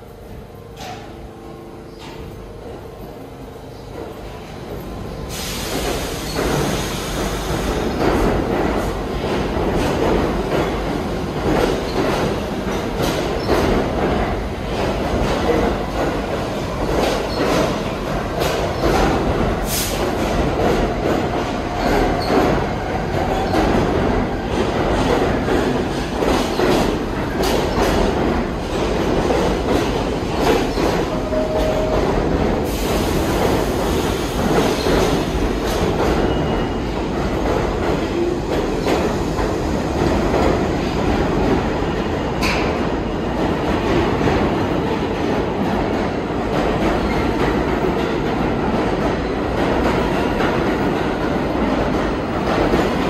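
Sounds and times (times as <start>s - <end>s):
subway train rumble: 0.0s - 53.0s.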